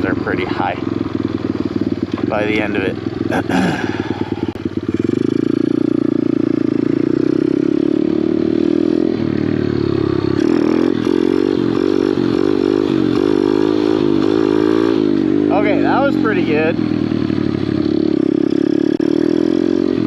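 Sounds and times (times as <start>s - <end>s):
pit bike engine revving: 0.0s - 20.0s.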